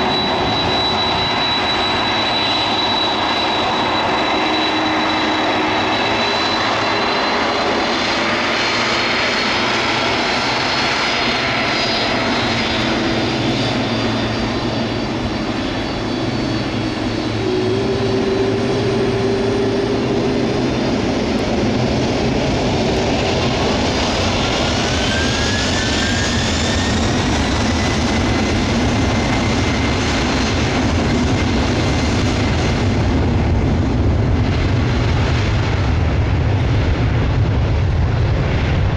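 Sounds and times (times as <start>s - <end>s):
jet engines at full power: 0.0s - 38.9s
deep rumble: 0.1s - 38.9s.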